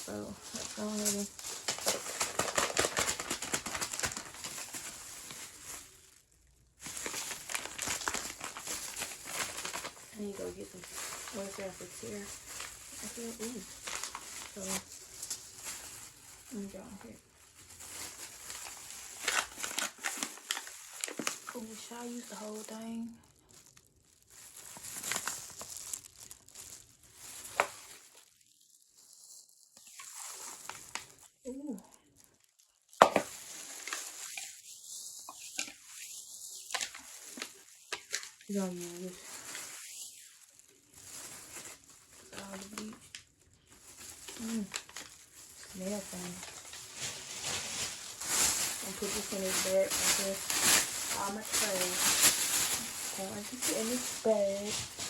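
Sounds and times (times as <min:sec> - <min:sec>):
plastic packaging crinkling: 0:00.0 - 0:55.0.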